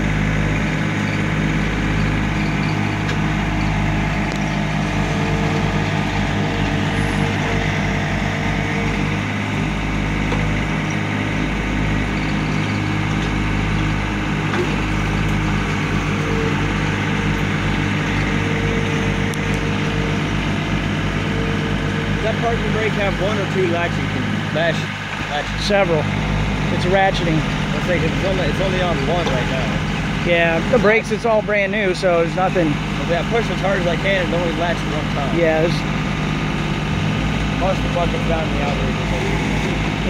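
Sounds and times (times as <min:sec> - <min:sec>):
hydraulic hum: 0:00.0 - 0:40.0
tractor diesel engine running: 0:00.0 - 0:40.0.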